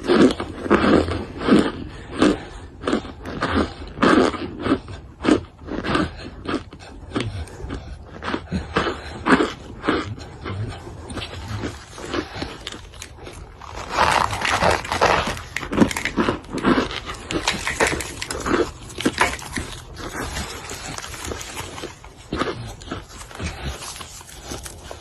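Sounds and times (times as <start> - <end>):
crunching chewing: 0.0 - 25.0
wet mouth sounds: 0.0 - 25.0.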